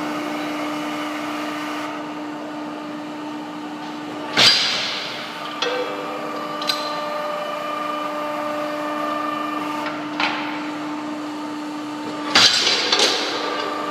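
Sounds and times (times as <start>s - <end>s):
steady machine hum: 0.0s - 13.9s.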